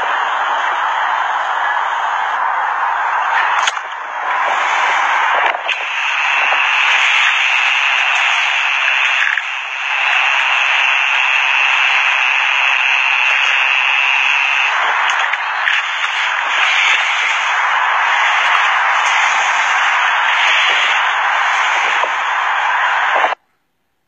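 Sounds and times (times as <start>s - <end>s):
static hiss: 0.0s - 23.4s.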